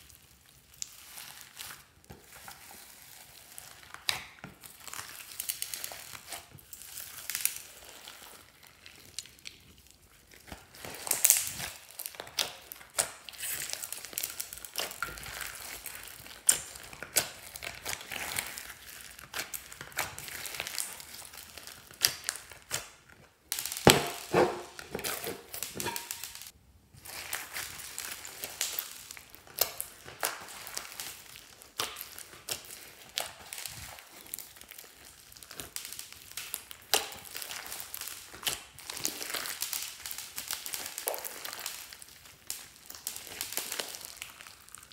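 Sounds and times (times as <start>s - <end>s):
hands squishing slime: 0.0s - 44.9s.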